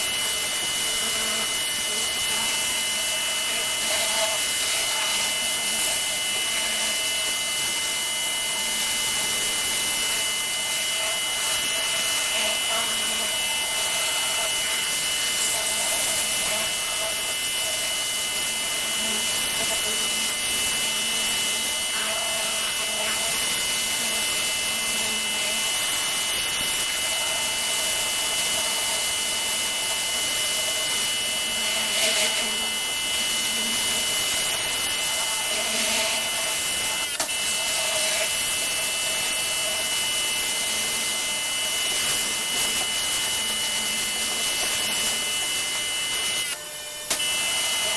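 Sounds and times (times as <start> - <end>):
pressure washer motor hum: 0.0 - 47.9.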